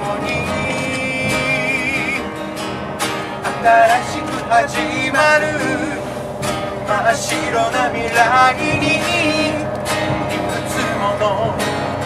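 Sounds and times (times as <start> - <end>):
man singing: 0.0 - 2.3, 3.4 - 6.1, 6.9 - 12.0
acoustic guitars strummed: 0.0 - 12.0.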